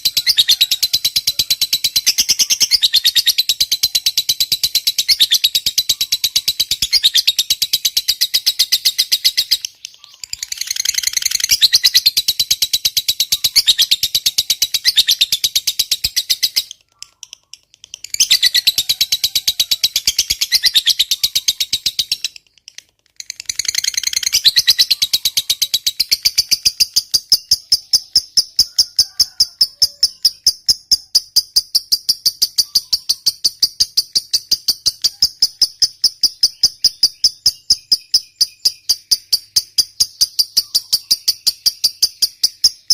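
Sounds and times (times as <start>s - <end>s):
lovebird chattering: 0.0s - 42.9s.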